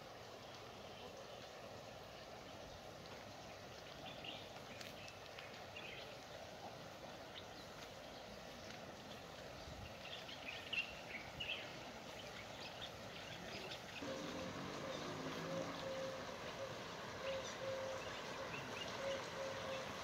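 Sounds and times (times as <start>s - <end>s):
faint outdoor rush: 0.0s - 20.0s
small birds chirping: 0.4s - 6.4s, 7.2s - 20.0s.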